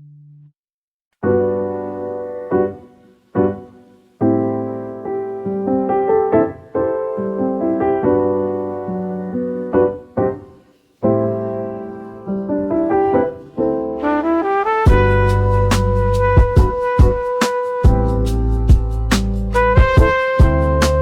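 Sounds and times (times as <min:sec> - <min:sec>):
solo piano playing: 0:01.2 - 0:21.0.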